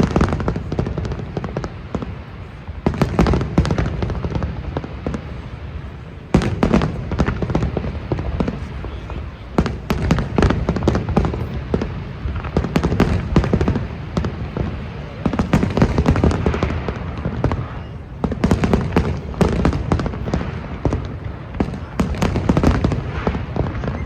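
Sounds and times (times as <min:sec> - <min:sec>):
crowd voices: 0:00.0 - 0:24.0
fireworks bangs and crackles: 0:00.0 - 0:24.0.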